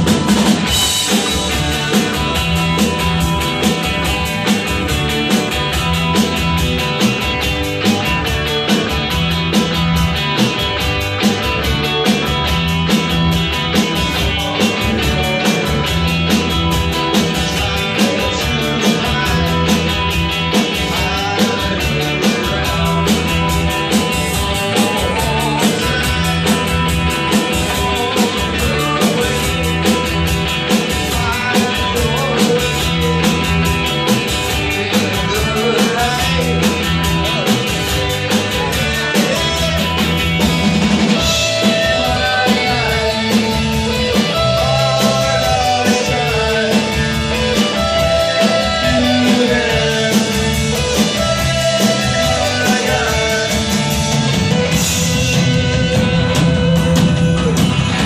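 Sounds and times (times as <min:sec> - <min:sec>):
drum kit beat: 0:00.0 - 0:58.0
electric guitar: 0:00.0 - 0:58.0
floor tom and snare: 0:00.0 - 0:58.0.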